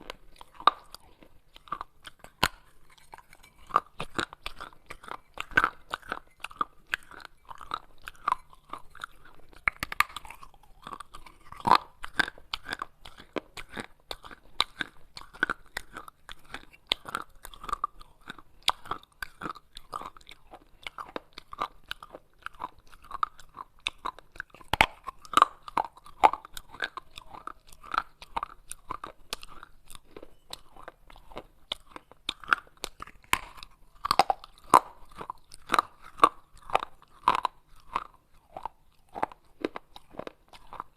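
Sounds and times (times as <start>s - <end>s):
crunching and chewing clay: 0.0s - 40.9s.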